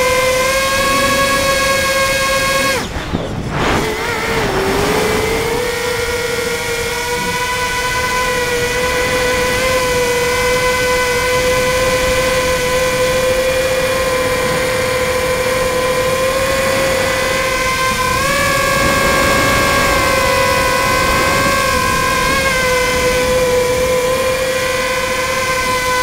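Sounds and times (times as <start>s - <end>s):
drone motors and propellers whining: 0.0s - 26.0s
wind rushing over microphone: 0.0s - 26.0s.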